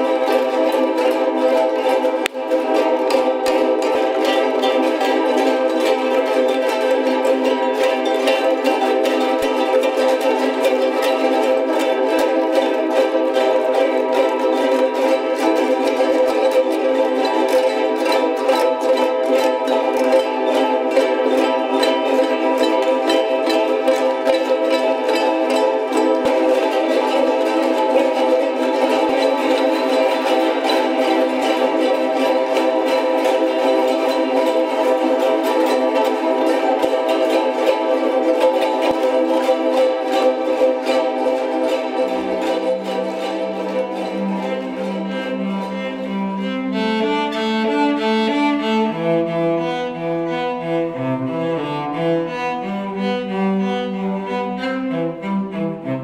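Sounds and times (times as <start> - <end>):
cello bowed notes: 0.0 - 56.0
ukuleles strumming: 0.0 - 56.0.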